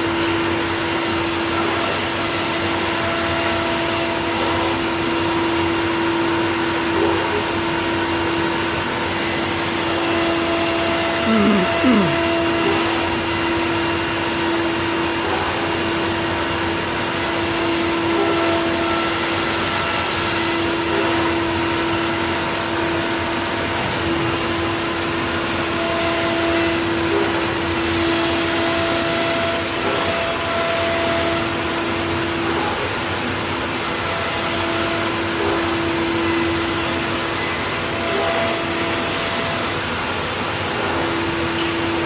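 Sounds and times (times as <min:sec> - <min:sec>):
cnc router humming: 0:07.6 - 0:42.0.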